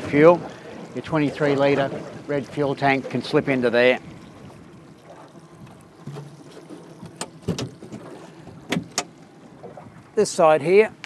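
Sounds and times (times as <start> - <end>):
water: 0.0 - 11.0
wind: 0.0 - 11.0.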